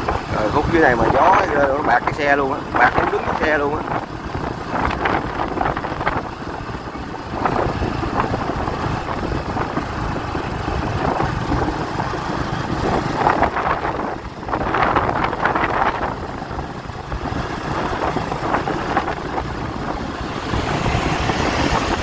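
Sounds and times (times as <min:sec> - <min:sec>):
motorbike engine: 0:00.0 - 0:22.0
road noise: 0:00.0 - 0:22.0
wind rushing over microphone: 0:00.0 - 0:22.0.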